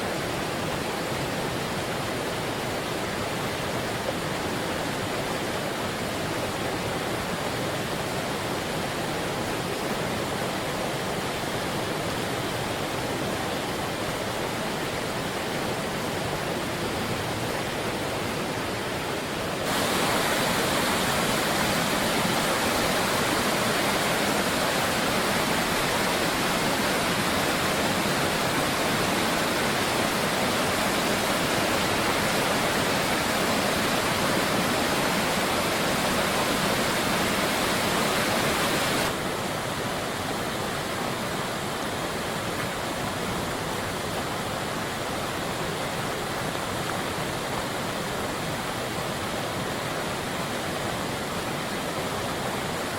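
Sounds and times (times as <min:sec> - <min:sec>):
fast river water rushing: 0:00.0 - 0:52.9.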